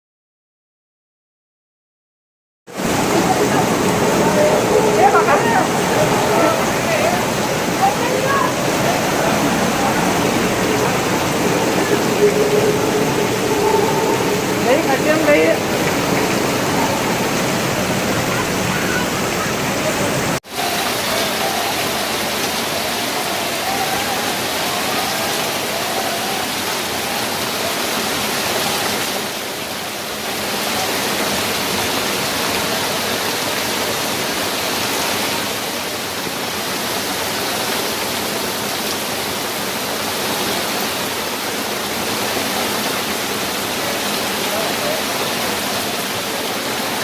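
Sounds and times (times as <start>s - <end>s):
heavy rain pouring: 2.7s - 47.0s.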